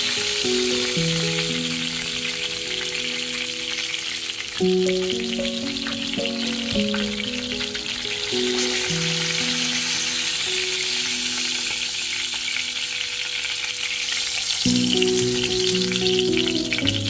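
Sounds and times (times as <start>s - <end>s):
chicken sizzling in oil: 0.0s - 17.0s
soft background music: 0.0s - 17.0s.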